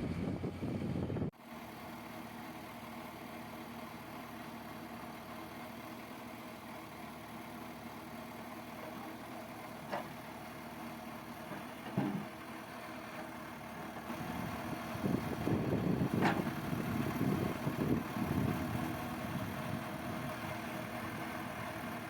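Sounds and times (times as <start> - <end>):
heavy machinery engine running: 0.0 - 22.0.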